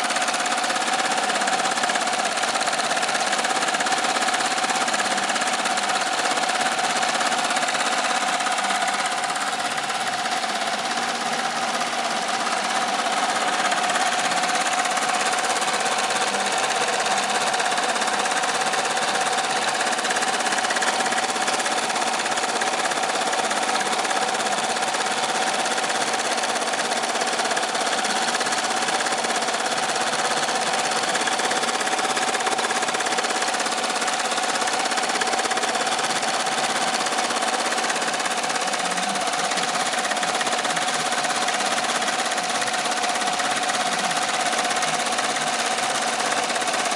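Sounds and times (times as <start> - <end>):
embroidery machine stitching: 0.0 - 46.9.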